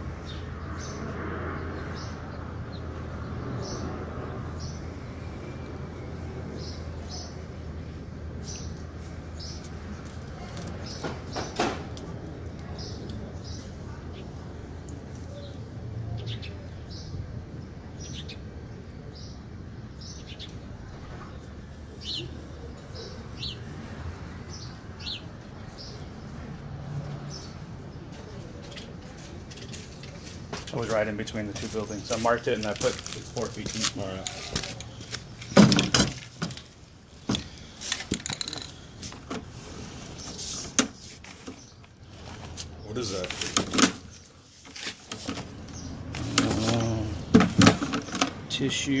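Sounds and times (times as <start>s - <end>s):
small birds chirping: 0.1s - 11.6s, 12.5s - 23.9s, 24.5s - 26.4s, 27.3s - 35.7s, 36.7s - 49.0s.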